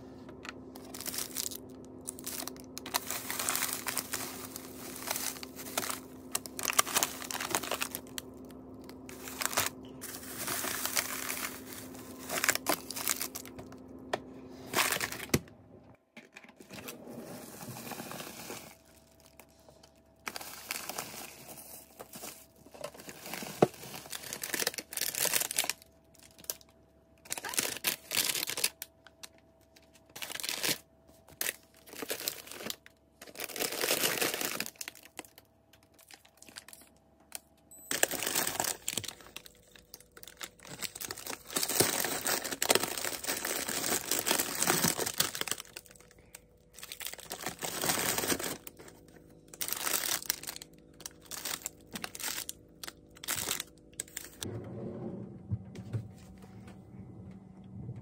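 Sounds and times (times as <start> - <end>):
plastic packets crinkling: 0.3 - 13.9, 14.6 - 15.5, 16.3 - 54.5.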